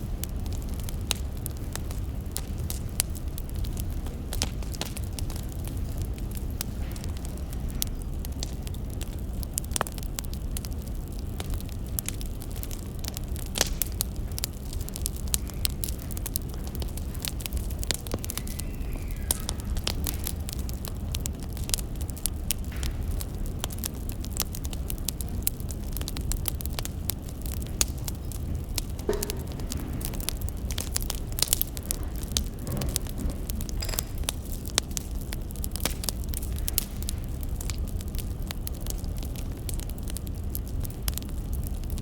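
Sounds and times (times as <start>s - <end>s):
firewood crackling and popping: 0.0s - 42.0s
low steady rumble: 0.0s - 42.0s.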